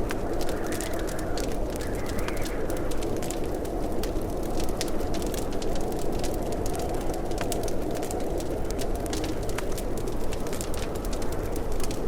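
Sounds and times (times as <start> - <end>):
fire flames rushing: 0.0 - 12.0
logs crackling and popping: 0.0 - 12.0.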